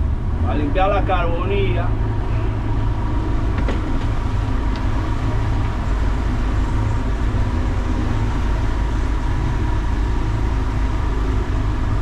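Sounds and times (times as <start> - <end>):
outboard motors droning: 0.0 - 12.0
water against hull: 1.1 - 12.0.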